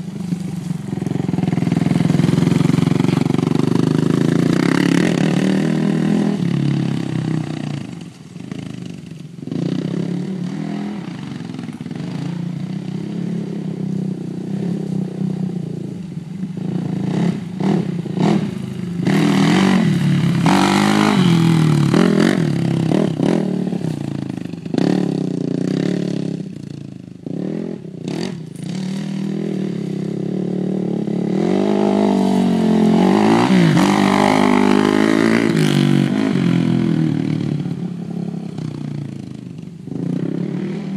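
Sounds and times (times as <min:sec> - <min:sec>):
quad engine revving: 0:00.0 - 0:15.9, 0:16.6 - 0:40.9.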